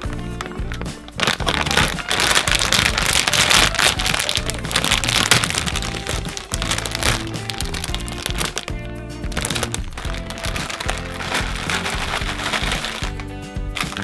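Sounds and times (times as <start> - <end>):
plastic bag crinkling and tearing: 0.0 - 8.7, 9.3 - 14.0
background music: 0.0 - 14.0.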